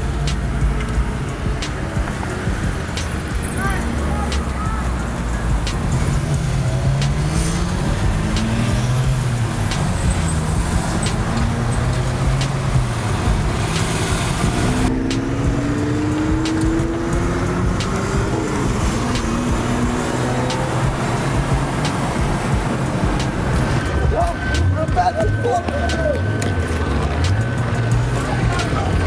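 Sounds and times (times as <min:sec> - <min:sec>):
car engine accelerating: 0:00.0 - 0:29.0
road noise inside car: 0:00.0 - 0:29.0.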